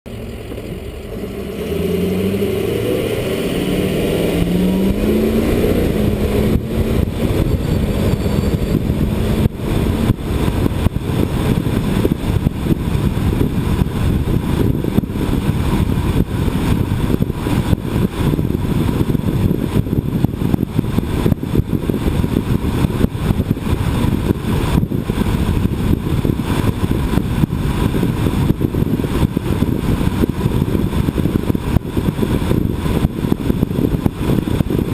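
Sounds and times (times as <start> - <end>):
buffeting: 0.1 - 34.9
low traffic rumble: 0.1 - 34.9
vehicle engine accelerating: 0.1 - 34.9.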